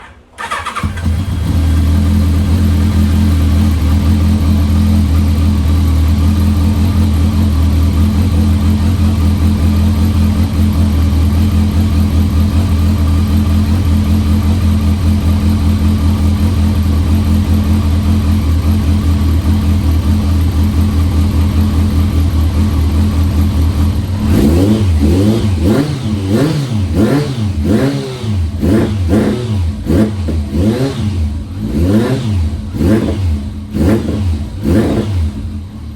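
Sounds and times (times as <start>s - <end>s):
motorcycle engine idling: 0.0s - 35.9s
motorcycle engine revving: 0.0s - 35.9s.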